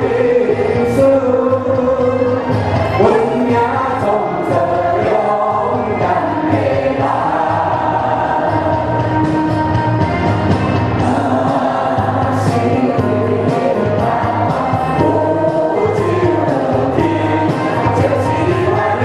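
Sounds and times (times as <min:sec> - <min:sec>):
mixed choir singing: 0:00.0 - 0:19.0.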